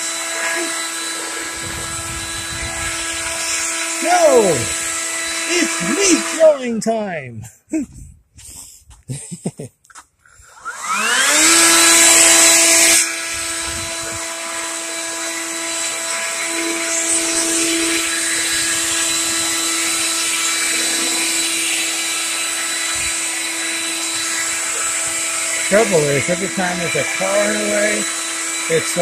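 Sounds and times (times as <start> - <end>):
leaf blower motor whine: 0.0 - 6.5, 10.4 - 29.0.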